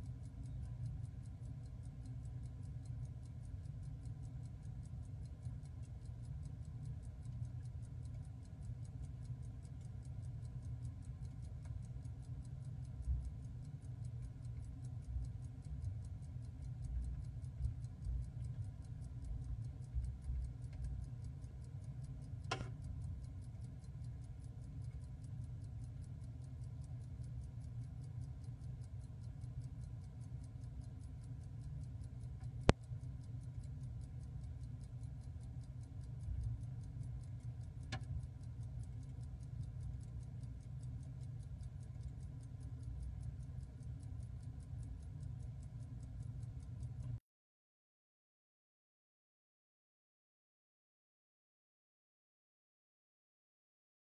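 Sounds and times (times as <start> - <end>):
pocket watch ticking: 0.0 - 47.2.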